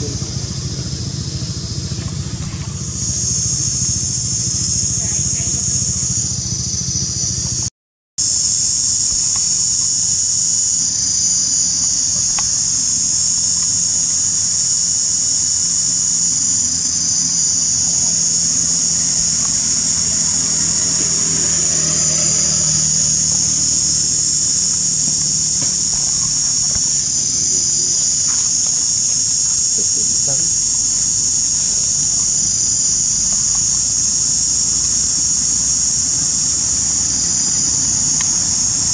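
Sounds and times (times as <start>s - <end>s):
insects chorus shrill drone: 0.0s - 38.9s.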